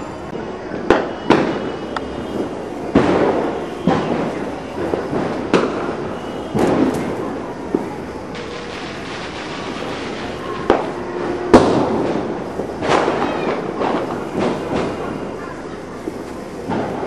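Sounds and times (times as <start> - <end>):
sharp crackling pops: 0.8 - 17.0
sparkler fizzing: 0.9 - 17.0.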